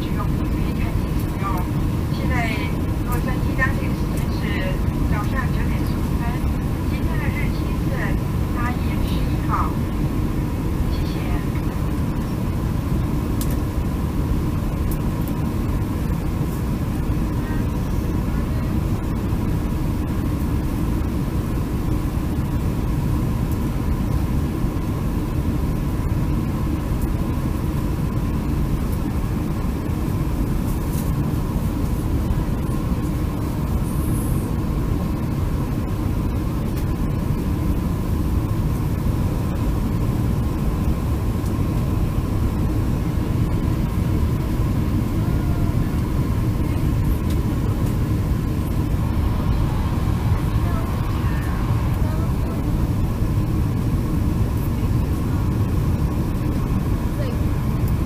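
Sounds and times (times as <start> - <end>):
airplane cabin engine rumble: 0.0 - 58.0
faint constant whine: 0.0 - 58.0.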